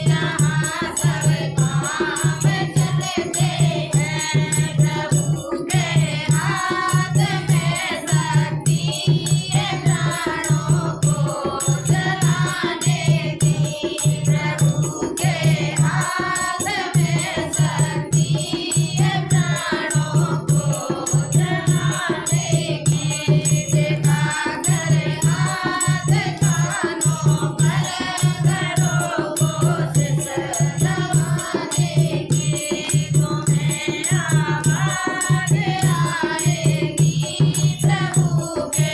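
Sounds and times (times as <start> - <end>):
rattling percussion: 0.0 - 38.9
steady drum beat: 0.0 - 38.9
women singing together: 0.0 - 38.9.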